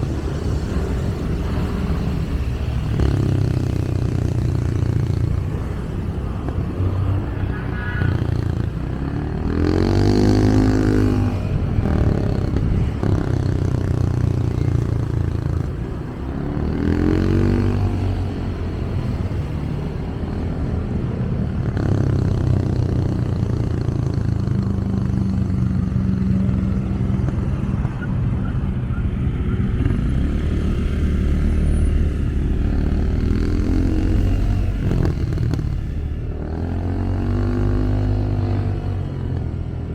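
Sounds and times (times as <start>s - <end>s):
motorcycle engine revving: 0.0s - 39.9s
traffic rumble: 0.0s - 39.9s
wind: 0.0s - 39.9s.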